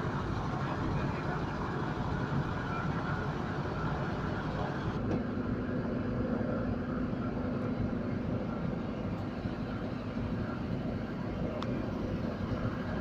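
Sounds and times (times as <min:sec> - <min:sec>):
heavy machinery engines rumbling: 0:00.0 - 0:13.0
steady hum: 0:00.0 - 0:13.0.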